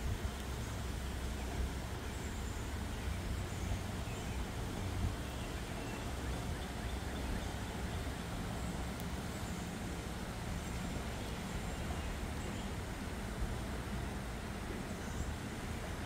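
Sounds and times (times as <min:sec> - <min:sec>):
floodwater rushing in river: 0:00.0 - 0:16.0.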